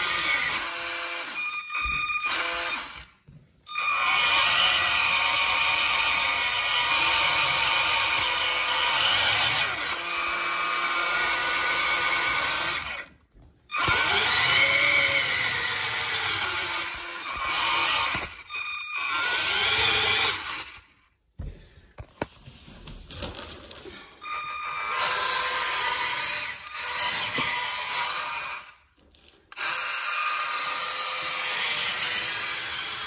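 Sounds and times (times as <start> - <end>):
toy truck motor whining: 0.0 - 13.1, 13.7 - 20.9, 24.2 - 28.8, 29.5 - 33.0.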